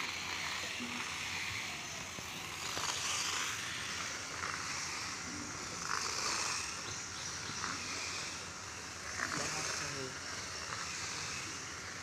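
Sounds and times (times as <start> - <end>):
toy car motor hiss: 0.0 - 12.0.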